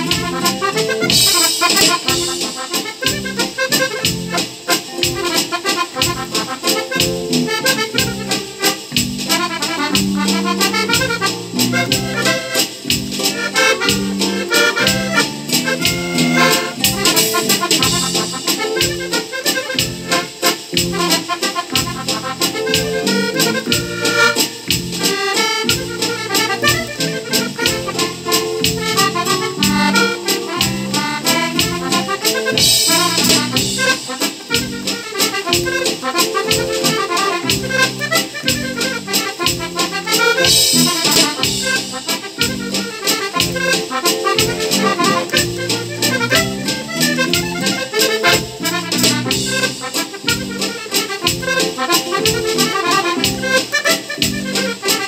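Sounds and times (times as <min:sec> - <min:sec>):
drum machine bass and synth backing: 0:00.0 - 0:34.8, 0:43.4 - 0:50.6, 0:51.3 - 0:54.6
button accordion playing waltz: 0:00.0 - 0:55.0.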